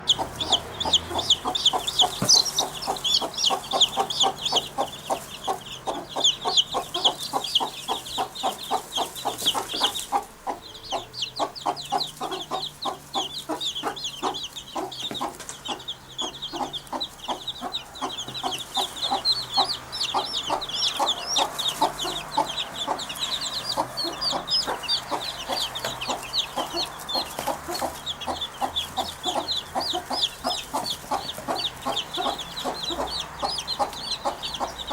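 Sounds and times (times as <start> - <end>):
clucking bird calls: 0.0 - 34.9
high bird chirps: 0.0 - 34.9.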